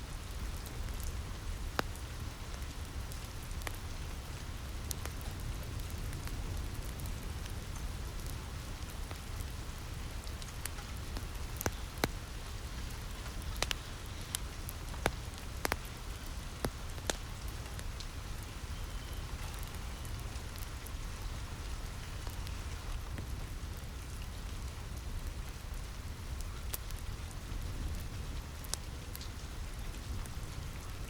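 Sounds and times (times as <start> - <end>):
rain falling on a roof: 0.0 - 31.0
wood fire crackling: 0.0 - 31.0.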